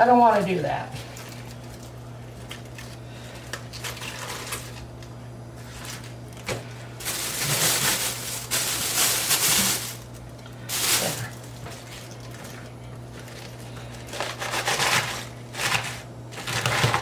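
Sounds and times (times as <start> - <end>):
lettuce rustling and crackling: 0.0 - 17.0.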